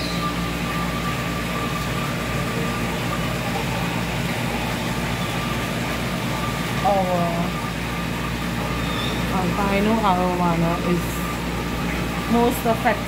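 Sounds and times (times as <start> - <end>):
water pouring into aquarium: 0.0 - 13.0.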